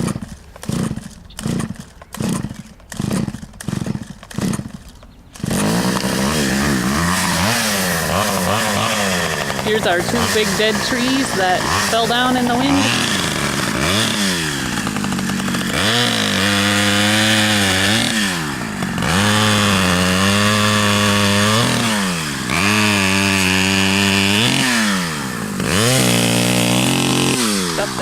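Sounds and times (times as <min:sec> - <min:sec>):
chainsaw revving and idling: 0:00.0 - 0:28.0.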